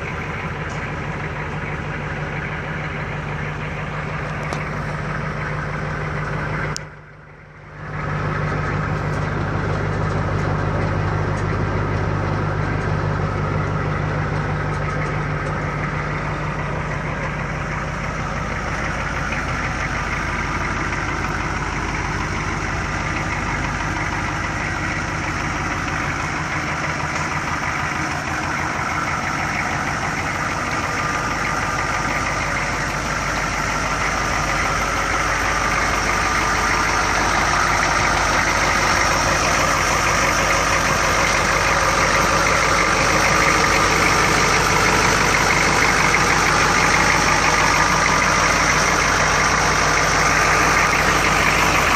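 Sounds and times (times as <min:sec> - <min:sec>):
diesel truck engine idling: 0:00.0 - 0:51.9.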